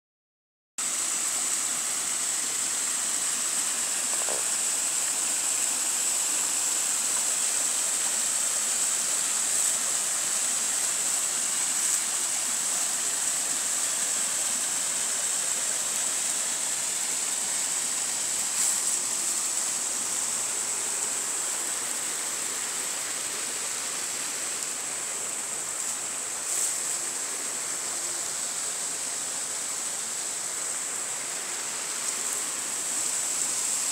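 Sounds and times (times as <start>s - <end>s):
stream rushing over rocks: 0.8s - 33.9s.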